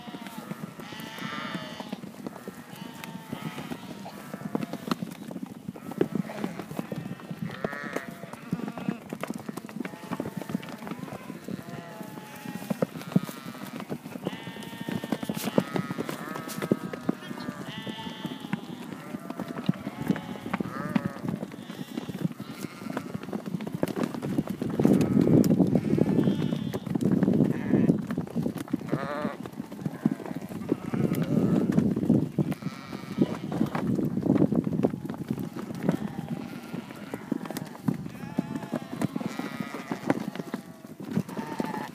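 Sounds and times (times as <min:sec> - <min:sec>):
sheep bleating: 0:00.0 - 0:05.0, 0:05.8 - 0:09.1, 0:09.8 - 0:23.2, 0:24.9 - 0:26.8, 0:28.9 - 0:31.8, 0:32.5 - 0:33.7, 0:35.8 - 0:41.9
hooves clattering on wood: 0:00.0 - 0:41.9.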